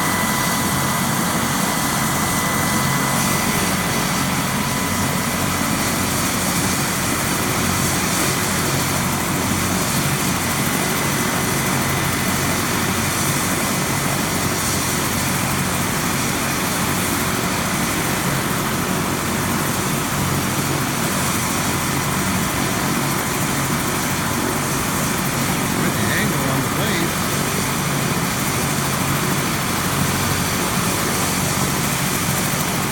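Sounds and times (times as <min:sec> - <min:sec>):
helicopter engine and rotor: 0:00.0 - 0:32.9.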